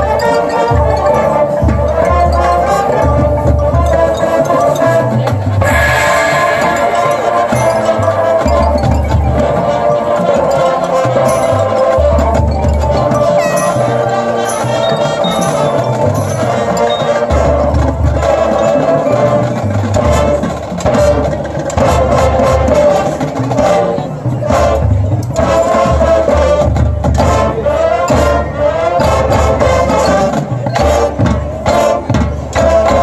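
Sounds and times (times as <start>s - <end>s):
marching band playing: 0.0s - 33.0s
percussion: 0.0s - 33.0s
wind instruments holding chords: 0.0s - 33.0s.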